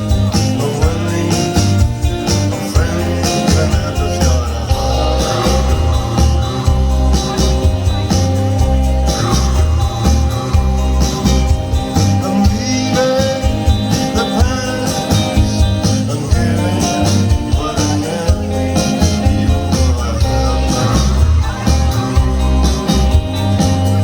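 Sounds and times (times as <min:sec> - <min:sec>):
lead vocal singing: 0:00.0 - 0:10.5, 0:12.0 - 0:23.6
rock band playing live: 0:00.0 - 0:24.0.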